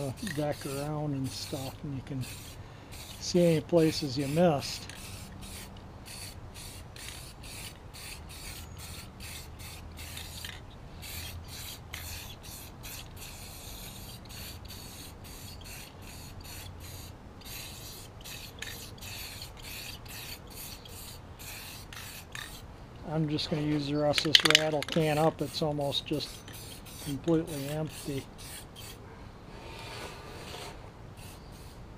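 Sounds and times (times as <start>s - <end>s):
spray can hissing bursts: 0.0s - 22.6s, 24.1s - 29.0s, 31.2s - 31.9s.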